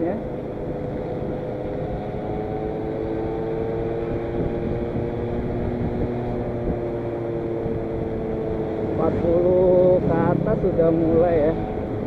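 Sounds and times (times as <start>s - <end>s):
low rushing wind: 0.0s - 12.0s
scooter engine high-revving: 0.2s - 12.0s.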